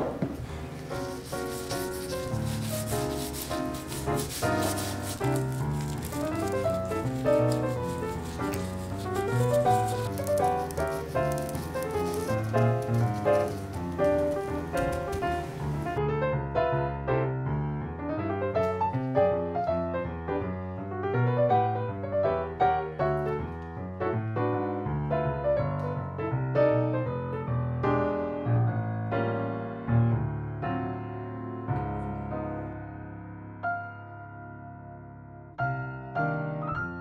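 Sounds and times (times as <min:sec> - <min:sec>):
gentle piano music: 0:00.0 - 0:37.0.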